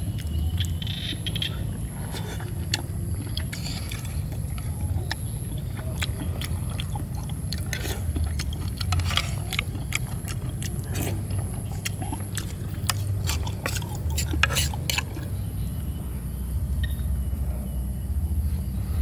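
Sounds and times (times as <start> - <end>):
person chewing: 0.0 - 15.5
steady low rumble: 0.0 - 19.0.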